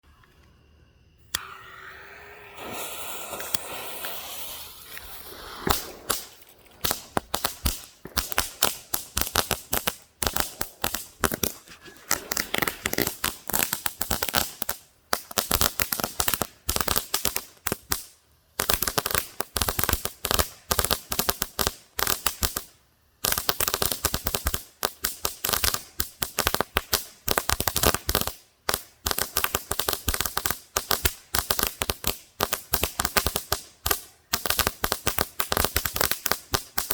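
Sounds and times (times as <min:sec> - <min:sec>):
firework crackling pops: 0:01.2 - 0:36.9
firework hissing: 0:01.2 - 0:36.9.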